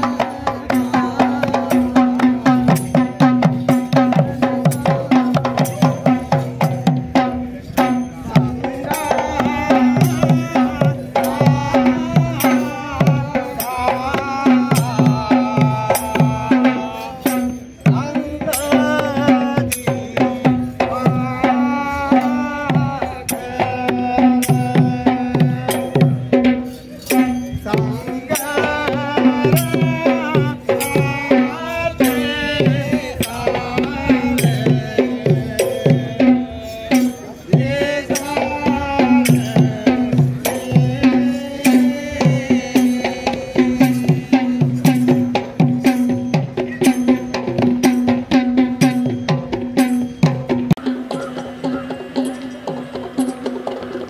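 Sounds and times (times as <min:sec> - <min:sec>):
hand drum strokes: 0:00.0 - 0:54.0
wavering melody: 0:00.0 - 0:54.0.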